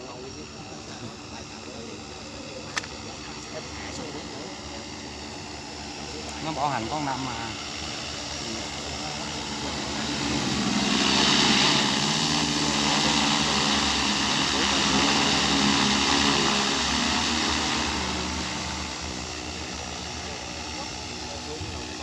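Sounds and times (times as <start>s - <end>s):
drone propellers humming: 0.0s - 22.0s.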